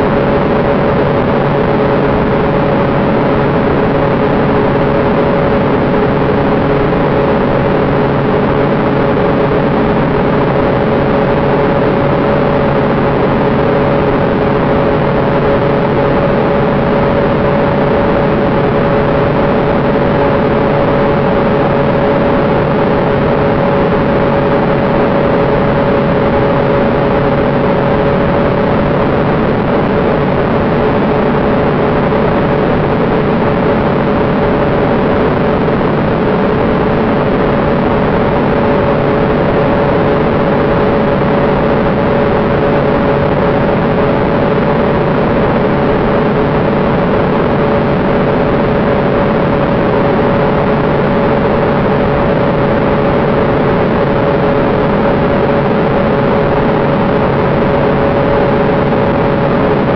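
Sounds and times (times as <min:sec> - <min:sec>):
aircraft engine and airflow drone: 0:00.0 - 0:59.9.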